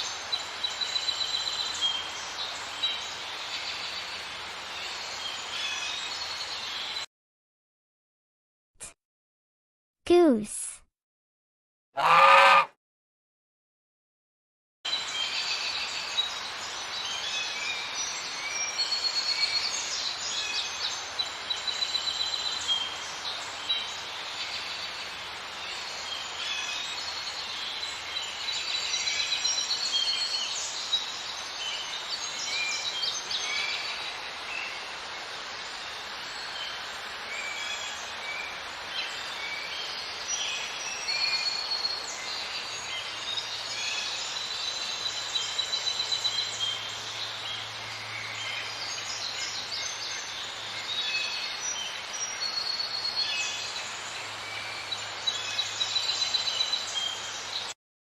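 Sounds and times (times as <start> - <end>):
steady outdoor hiss: 0.0 - 7.0, 14.9 - 57.8.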